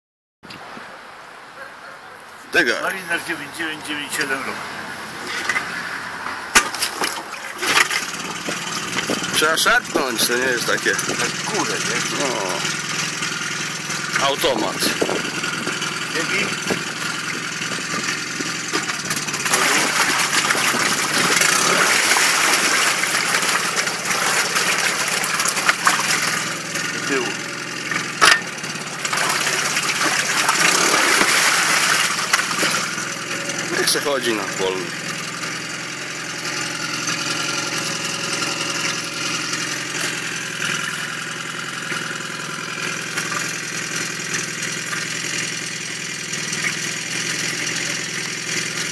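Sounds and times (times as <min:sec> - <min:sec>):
outboard motor running: 0:02.5 - 0:48.9
propeller churning water: 0:02.6 - 0:48.9.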